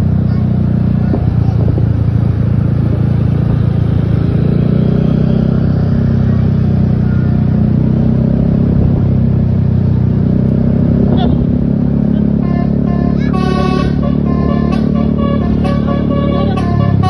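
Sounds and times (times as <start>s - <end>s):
bus diesel engine droning: 0.0s - 17.0s.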